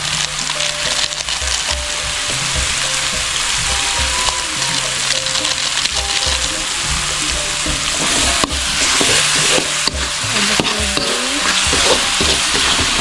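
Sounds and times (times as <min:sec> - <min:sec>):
spice paste sizzling in a wok: 0:00.0 - 0:13.0.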